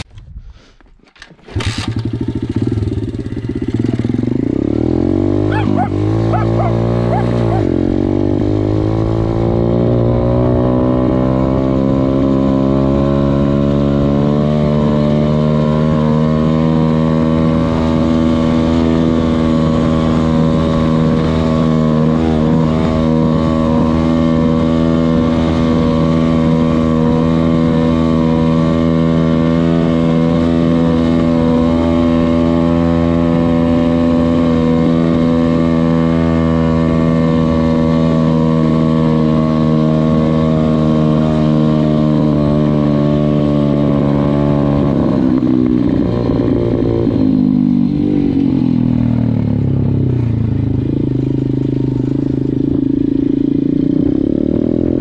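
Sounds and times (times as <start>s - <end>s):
motorbike engine revving: 1.1s - 55.0s.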